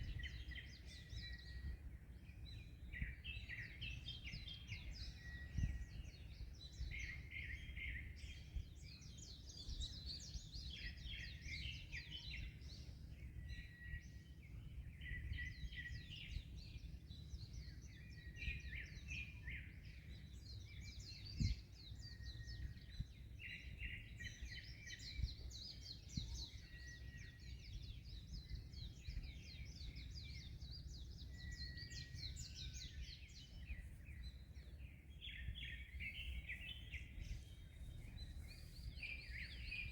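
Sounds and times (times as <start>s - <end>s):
small birds chirping: 0.0s - 39.9s
wind: 0.0s - 39.9s.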